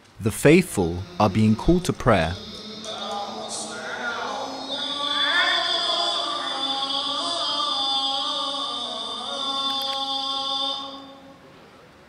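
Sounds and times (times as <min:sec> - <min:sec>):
man chanting prayer: 0:00.2 - 0:11.3.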